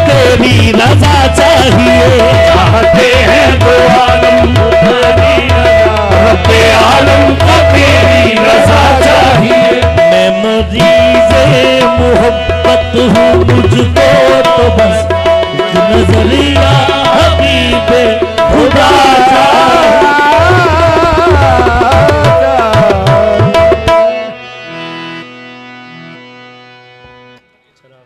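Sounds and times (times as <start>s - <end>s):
wordless vocal line: 0.0s - 23.6s
tabla drumming: 0.0s - 24.4s
harmonium note: 0.0s - 28.0s.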